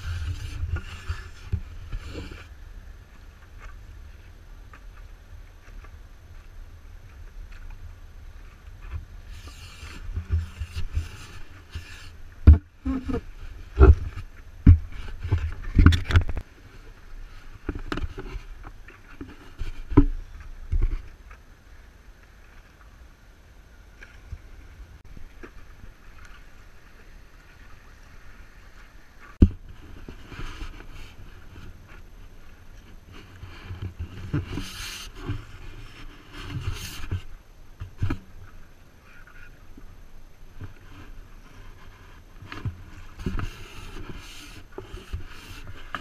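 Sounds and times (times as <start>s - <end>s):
paddle splashing water: 0.0s - 46.0s.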